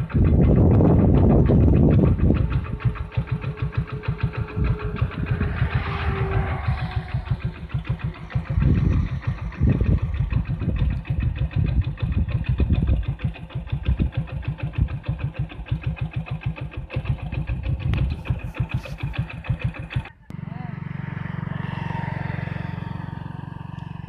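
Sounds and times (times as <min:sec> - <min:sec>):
engine chugging: 0:00.0 - 0:24.0.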